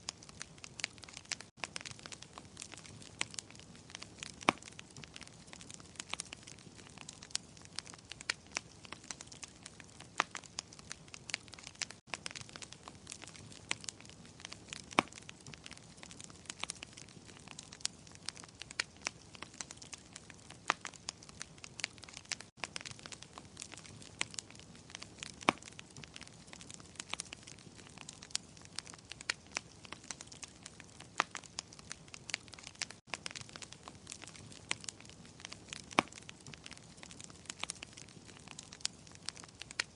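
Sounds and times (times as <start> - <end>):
soft steady hiss: 0.0 - 39.9
wood fire crackling and popping: 0.0 - 39.9.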